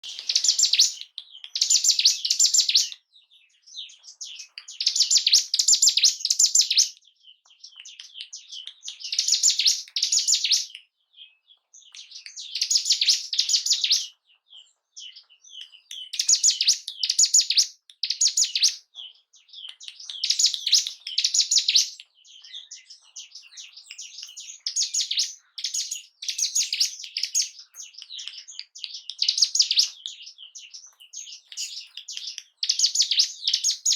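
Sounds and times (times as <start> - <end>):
bird singing high rapid song: 0.0 - 33.9
soft chattering bird calls: 0.0 - 33.9.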